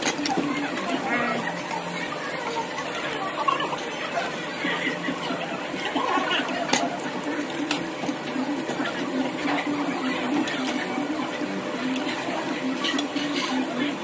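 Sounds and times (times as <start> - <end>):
indistinct voices: 0.0 - 14.0.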